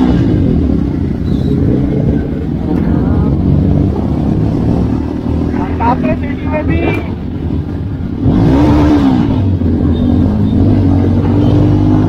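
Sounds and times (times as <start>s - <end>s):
motorcycle engines running: 0.0s - 12.0s
road and wind noise: 0.0s - 12.0s.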